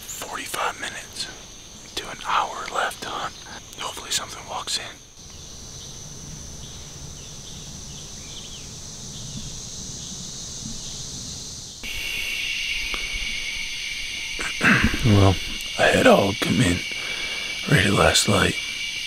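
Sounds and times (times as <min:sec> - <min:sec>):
drone of woodland insects: 0:00.0 - 0:19.0
insect chorus of high trills: 0:00.0 - 0:19.0.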